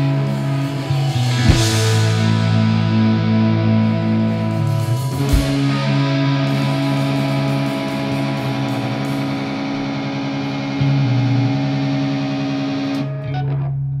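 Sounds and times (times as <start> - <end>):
low bass note: 0.0 - 12.2
distorted electric guitar chords: 0.0 - 14.0.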